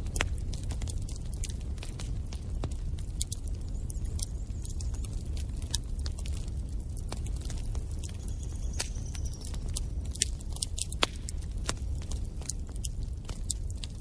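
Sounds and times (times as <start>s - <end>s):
fire crackling and popping: 0.0s - 14.0s
fire rumbling in fireplace: 0.0s - 14.0s.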